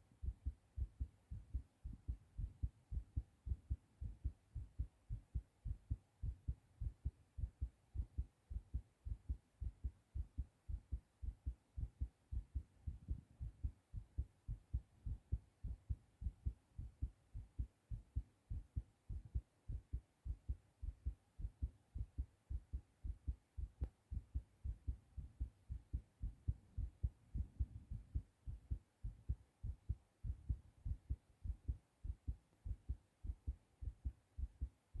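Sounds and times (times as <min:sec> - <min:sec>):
fast heartbeat thumps: 0:00.0 - 0:35.0.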